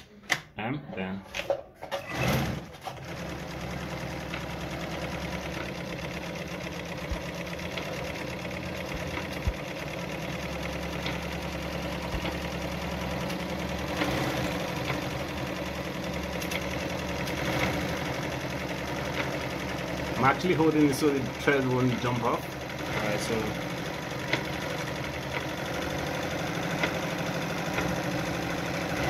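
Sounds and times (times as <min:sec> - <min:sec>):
electric sewing machine running: 0:01.9 - 0:29.0.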